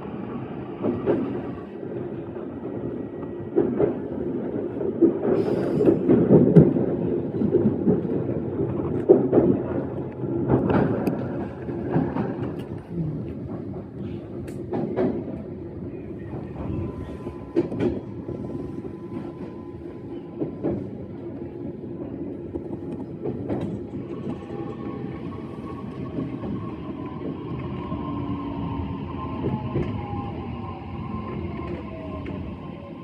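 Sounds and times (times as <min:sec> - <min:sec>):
train rail rumble: 0:00.0 - 0:33.0.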